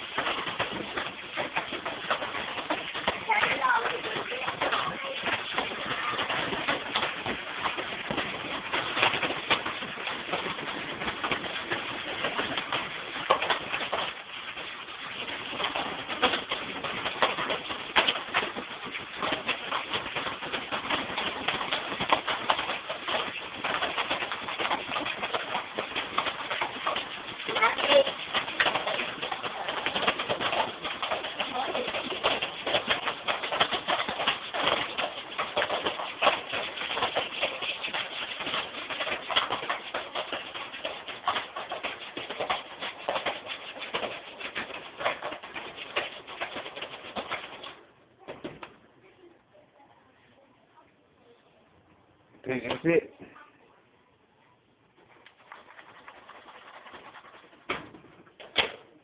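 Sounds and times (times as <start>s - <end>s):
popcorn popping: 0.0s - 48.8s.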